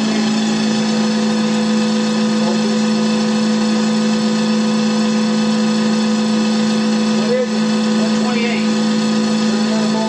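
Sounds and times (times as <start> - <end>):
generator humming: 0.0 - 10.0.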